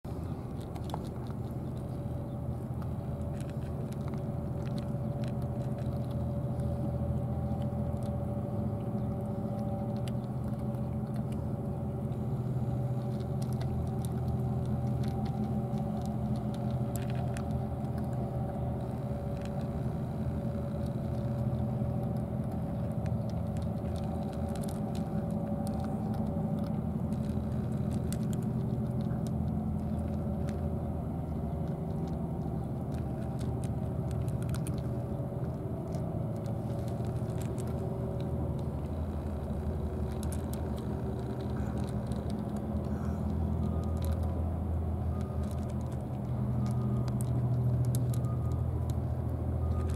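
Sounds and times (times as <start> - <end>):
low mechanical hum: 0.0 - 49.9
cats crunching dry kibble: 0.1 - 49.9.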